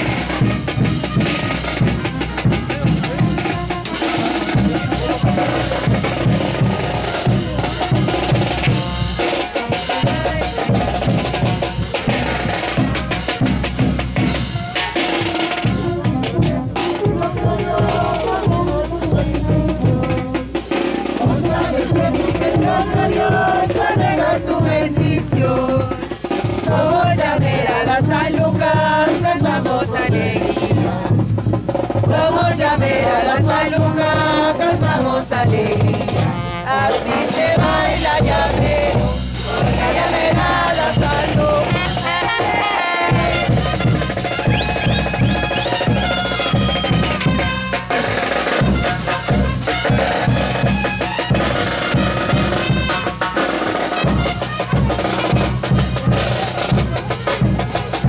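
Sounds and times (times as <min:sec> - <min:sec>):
live dance music: 0:00.0 - 0:31.3, 0:31.9 - 0:53.4.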